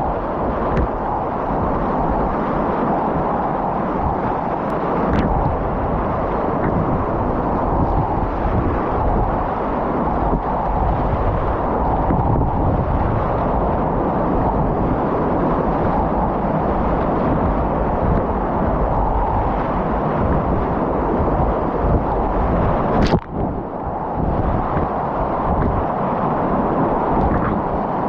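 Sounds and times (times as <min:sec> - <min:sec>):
whitewater rapids roaring: 0:00.0 - 0:28.0.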